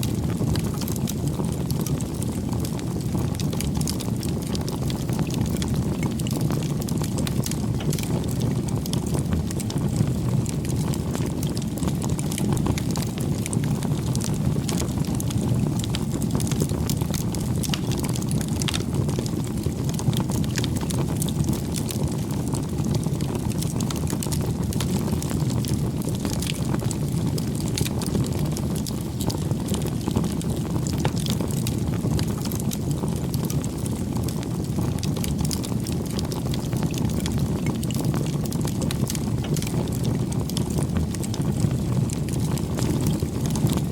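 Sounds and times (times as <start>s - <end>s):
burning wood crackling: 0.0s - 43.9s
low rumble of flames: 0.0s - 43.9s.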